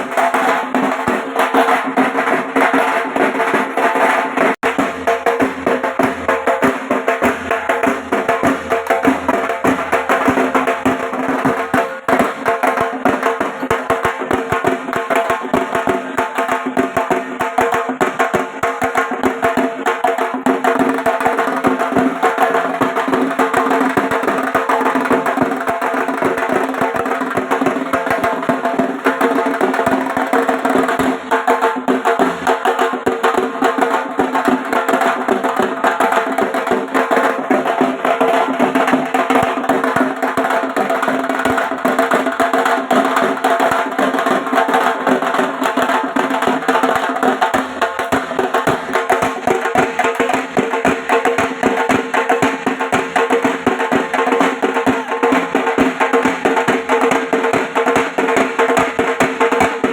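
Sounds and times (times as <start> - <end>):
barrel drum beaten with sticks: 0.0 - 59.9.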